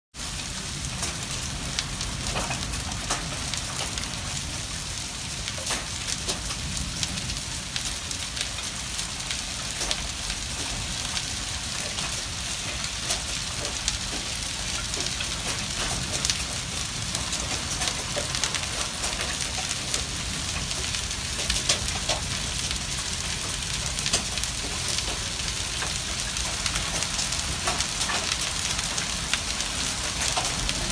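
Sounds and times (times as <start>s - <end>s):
hail falling on concrete and gravel: 0.1s - 30.9s.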